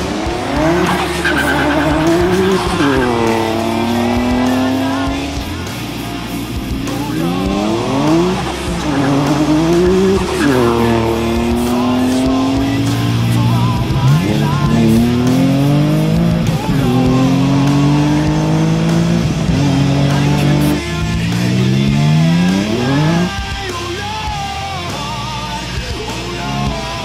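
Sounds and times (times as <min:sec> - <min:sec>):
car engine revving: 0:00.0 - 0:27.0
music playing: 0:00.0 - 0:27.0.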